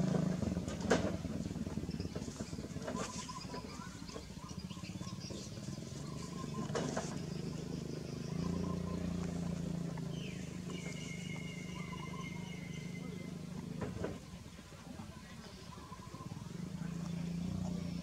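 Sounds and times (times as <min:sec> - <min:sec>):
motor engine humming: 0:00.0 - 0:18.0.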